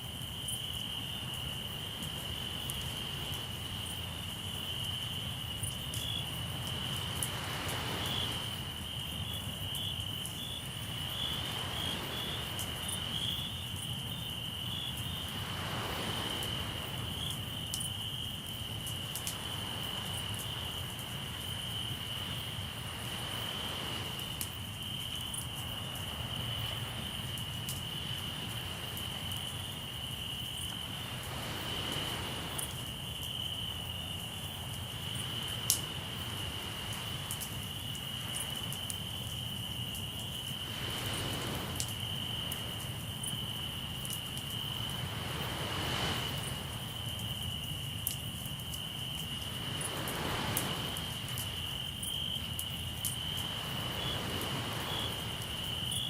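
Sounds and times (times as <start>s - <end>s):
crickets trilling: 0.0s - 56.0s
campfire crackling: 0.1s - 56.0s
sea waves washing in: 1.9s - 9.2s, 10.6s - 17.8s, 18.5s - 48.1s, 48.8s - 56.0s.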